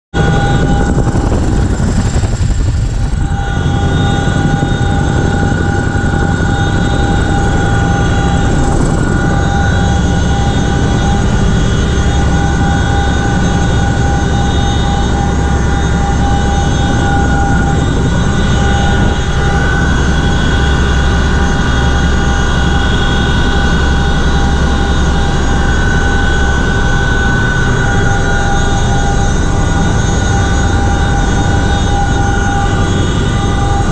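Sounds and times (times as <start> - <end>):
helicopter rotors and engines droning: 0.1 - 33.9.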